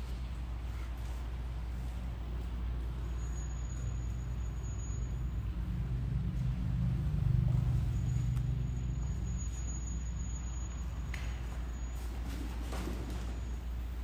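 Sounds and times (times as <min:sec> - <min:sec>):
low steady rumble: 0:00.0 - 0:12.6.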